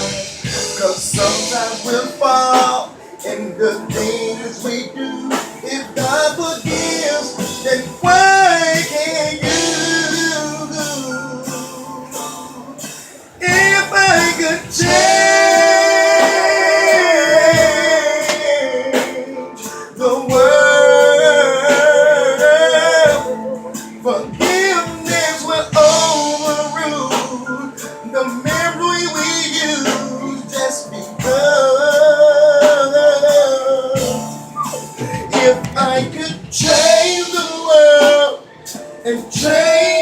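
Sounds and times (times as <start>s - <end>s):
guitar accompaniment: 0.0s - 40.0s
person singing slow ballad: 0.0s - 40.0s.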